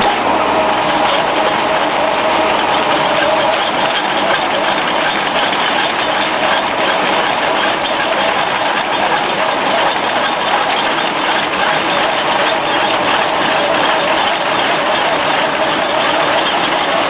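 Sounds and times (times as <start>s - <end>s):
hydraulic breaker hammering brick: 0.0s - 17.0s.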